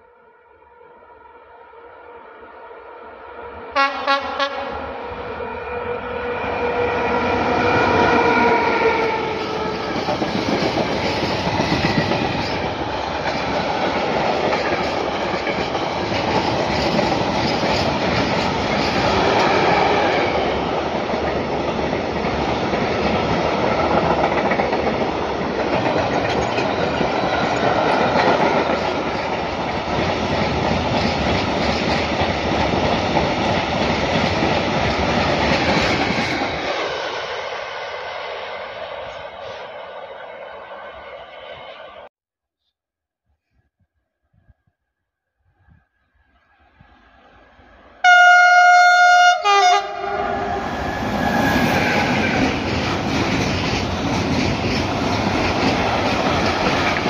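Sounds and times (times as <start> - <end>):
freight train rolling past: 0.7 - 42.1, 46.6 - 57.0.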